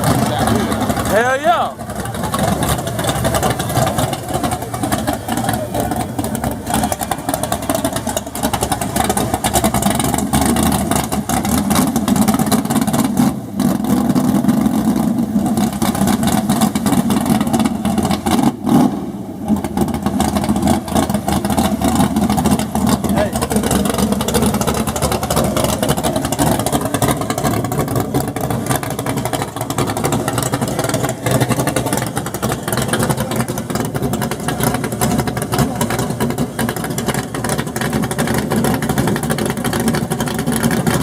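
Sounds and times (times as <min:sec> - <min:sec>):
car engine with crackly exhaust: 0:00.0 - 0:41.0.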